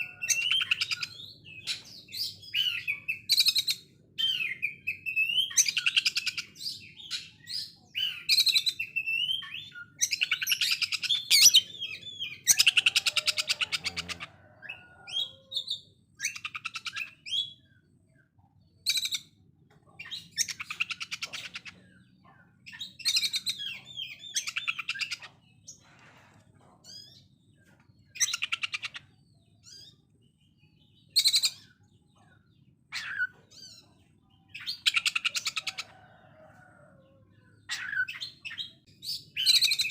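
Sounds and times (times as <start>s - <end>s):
bird singing rattling phrases: 0.0s - 36.4s, 37.1s - 39.9s.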